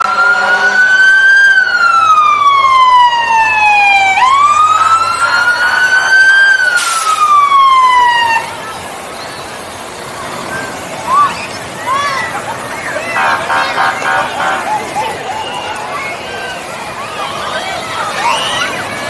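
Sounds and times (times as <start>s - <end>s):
fire truck siren wailing: 0.0s - 11.3s, 11.9s - 19.0s.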